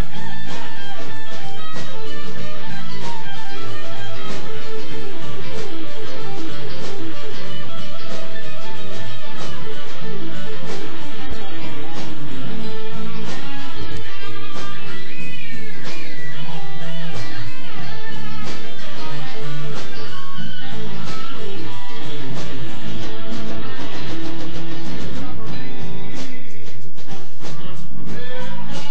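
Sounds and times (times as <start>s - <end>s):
blues band playing: 0.0s - 28.9s
electric guitar lead: 0.0s - 28.9s.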